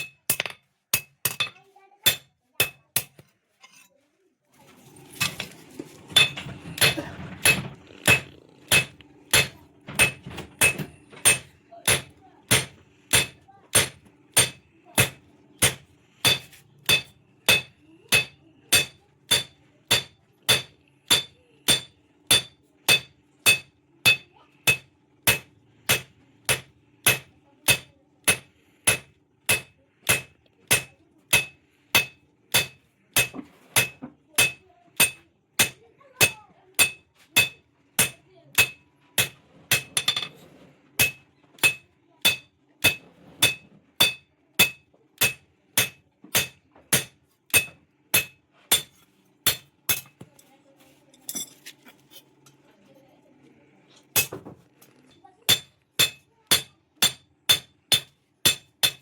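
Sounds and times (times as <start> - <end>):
hammer striking steel on anvil: 0.0 - 3.2, 6.2 - 40.3, 41.0 - 50.3, 54.2 - 54.4, 55.5 - 59.0.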